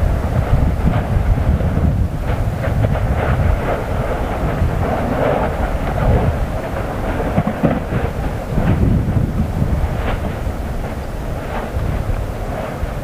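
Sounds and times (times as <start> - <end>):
crackling bursts of spatter: 0.0 - 13.0
lava fountain rumbling: 0.0 - 13.0.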